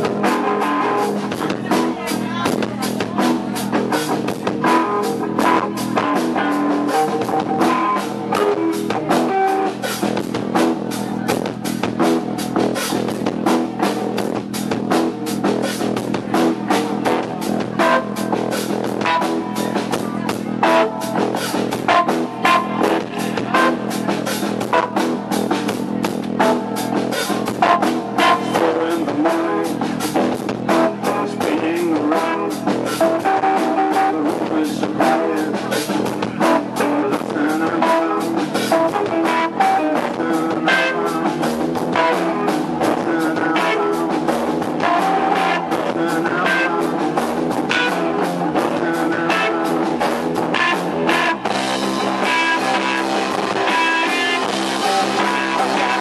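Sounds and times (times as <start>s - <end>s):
rock music with guitar and drums: 0.0s - 56.0s.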